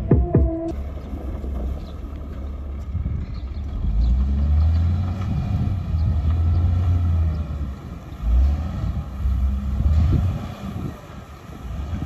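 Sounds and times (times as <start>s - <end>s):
faint diesel engine running: 0.0s - 12.0s
wind buffeting microphone: 0.0s - 12.0s.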